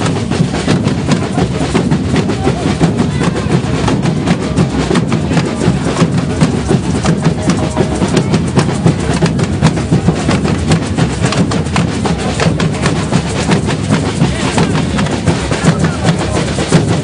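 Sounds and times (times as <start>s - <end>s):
drum corps playing snare and bass: 0.0s - 17.0s.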